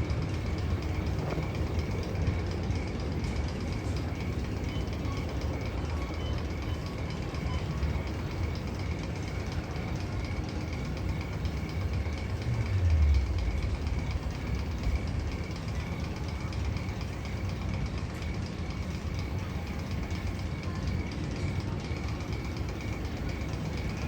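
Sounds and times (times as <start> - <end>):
faint fast ticking: 0.0 - 24.0
low train-like rumble: 0.0 - 24.0.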